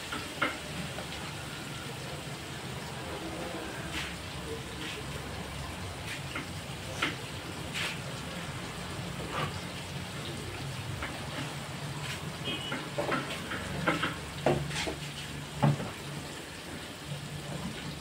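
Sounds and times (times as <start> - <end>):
food sizzling in hot oil: 0.0 - 18.0
oil popping and crackling: 0.0 - 18.0.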